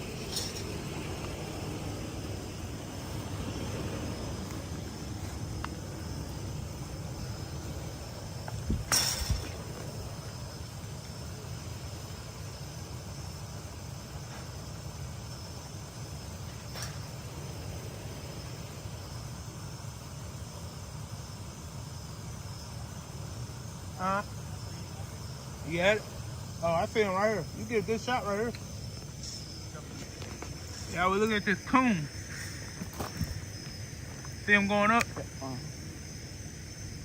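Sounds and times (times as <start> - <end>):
night insects chirring: 0.0 - 37.0.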